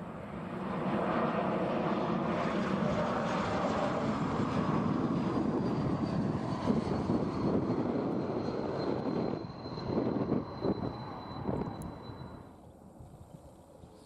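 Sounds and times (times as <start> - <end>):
jet engines rumbling with whine: 0.0 - 14.0.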